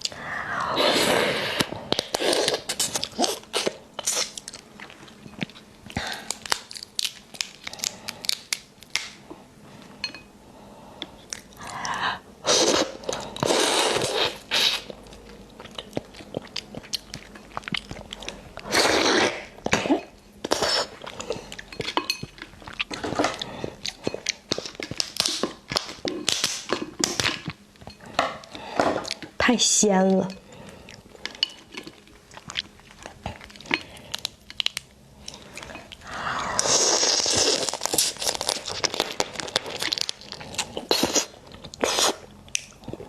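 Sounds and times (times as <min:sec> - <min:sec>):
crunching and chewing crab shell: 0:01.6 - 0:09.2, 0:12.8 - 0:29.4, 0:30.4 - 0:43.0.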